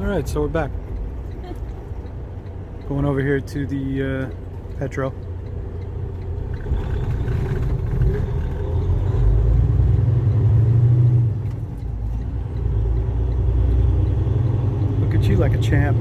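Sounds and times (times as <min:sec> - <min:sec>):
diesel engine rumble inside cab: 0:00.0 - 0:16.0.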